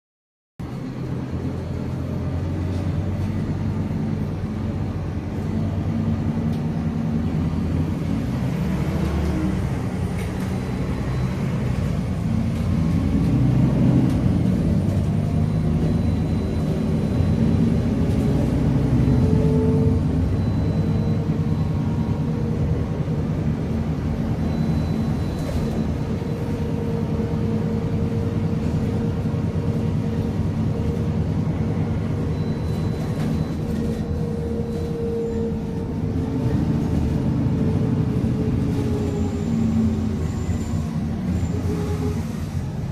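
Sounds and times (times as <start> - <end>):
bus diesel engine pulling away: 0.6 - 42.9.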